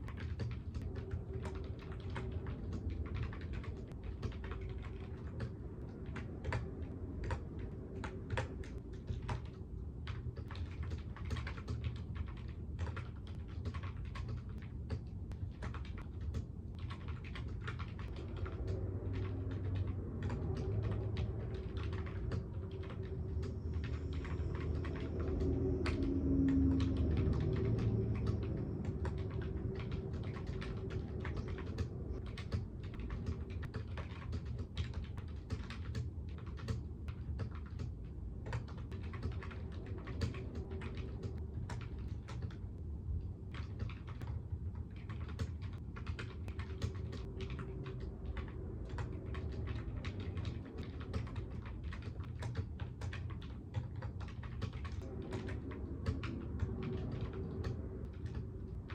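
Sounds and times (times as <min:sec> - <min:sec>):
low background hum: 0:00.0 - 0:58.9.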